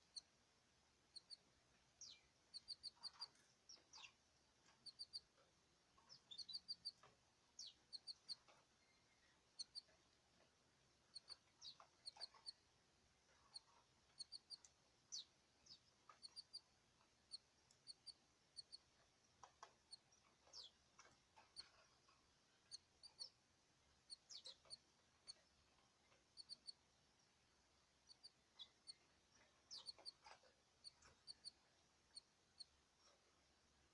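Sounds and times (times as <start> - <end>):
small birds chirping: 0.0 - 0.4, 1.0 - 33.9.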